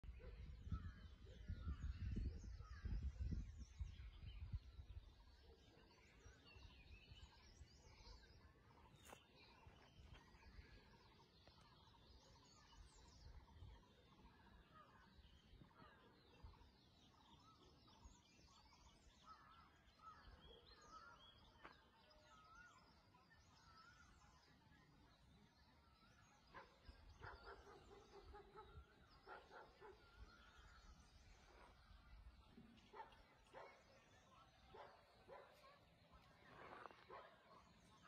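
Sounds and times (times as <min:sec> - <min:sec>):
birds chirping and trilling: 0:00.0 - 0:38.0.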